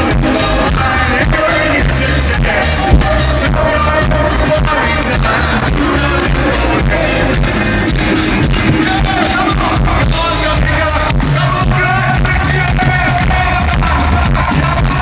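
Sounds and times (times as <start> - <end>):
live rock band playing: 0.0 - 15.0
man singing into a microphone: 0.0 - 15.0.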